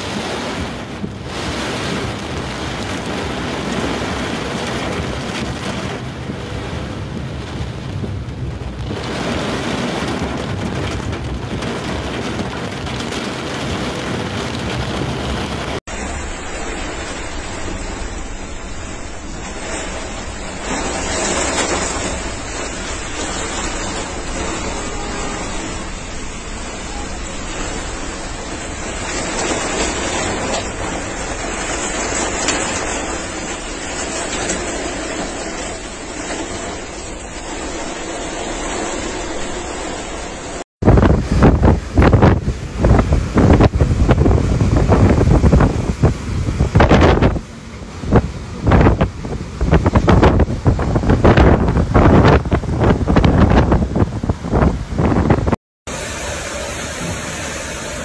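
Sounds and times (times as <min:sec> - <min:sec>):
rushing rain and water: 0:00.0 - 0:58.0
strong wind: 0:00.0 - 0:58.0
wind buffeting microphone: 0:00.0 - 0:58.0.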